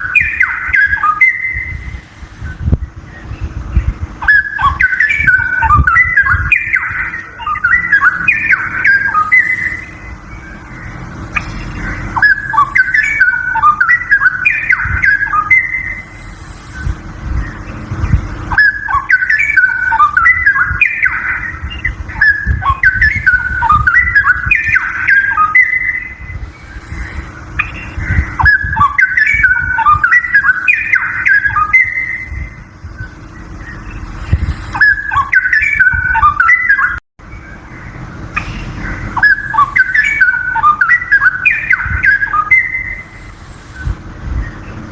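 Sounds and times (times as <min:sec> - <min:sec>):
bird singing whistled warbling: 0:00.0 - 0:44.9
low background rumble: 0:00.0 - 0:44.9.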